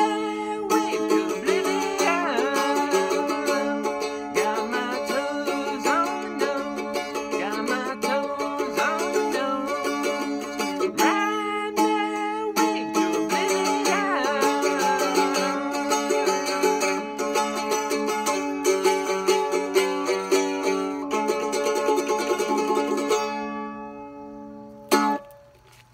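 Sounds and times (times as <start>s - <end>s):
mandolin strummed and picked: 0.0s - 25.9s.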